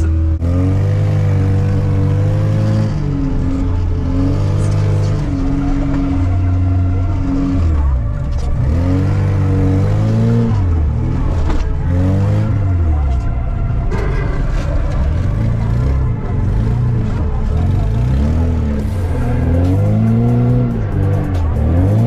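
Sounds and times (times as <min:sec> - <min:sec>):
car engine revving hard: 0:00.0 - 0:22.0.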